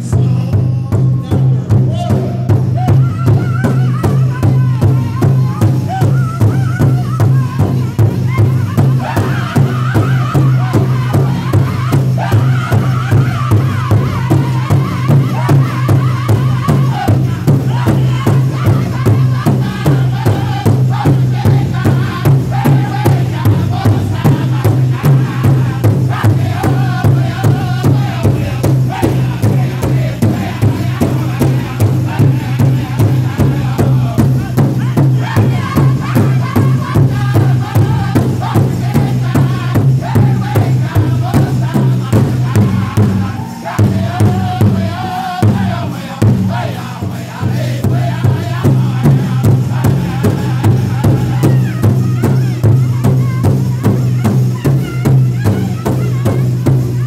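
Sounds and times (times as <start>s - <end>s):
large drum beaten with drumsticks: 0.0s - 57.0s
men singing in wavering voices: 0.0s - 57.0s.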